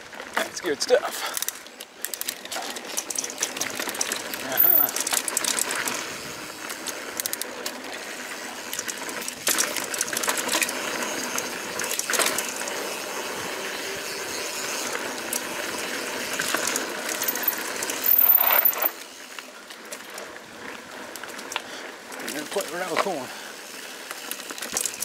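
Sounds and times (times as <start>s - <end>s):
mountain bike rattling and clicking: 0.0s - 25.0s.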